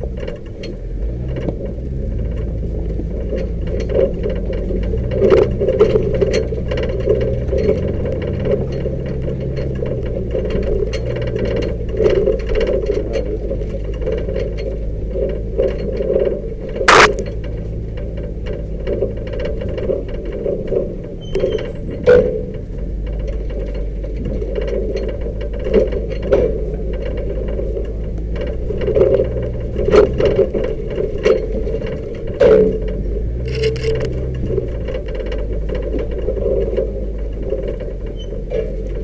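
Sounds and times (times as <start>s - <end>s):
knocks and rattles over rocks: 0.0s - 39.0s
truck engine drone: 0.0s - 39.0s.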